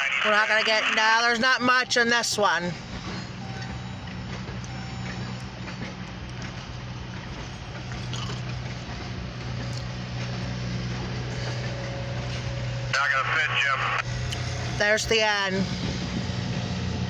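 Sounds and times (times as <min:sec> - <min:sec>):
constant low hum: 0:00.0 - 0:17.0
train wheels rumbling on rails: 0:00.4 - 0:17.0.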